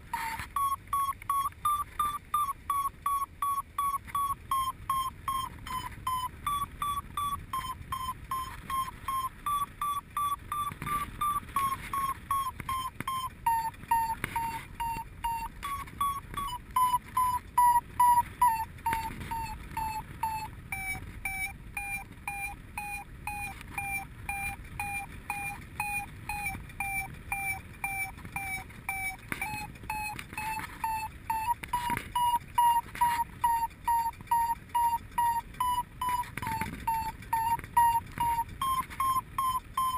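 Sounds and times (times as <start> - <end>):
variometer beeping rapidly: 0.0 - 39.9.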